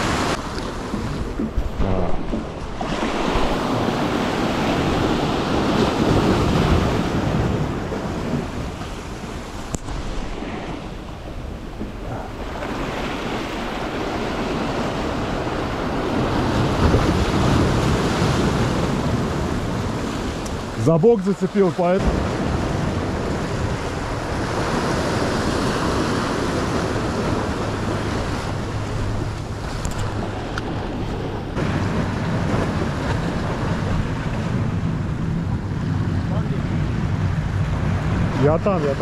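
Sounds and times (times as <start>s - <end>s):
wind rumble on microphone: 0.0s - 20.9s, 22.0s - 39.0s
waves breaking against rocks: 0.0s - 39.0s.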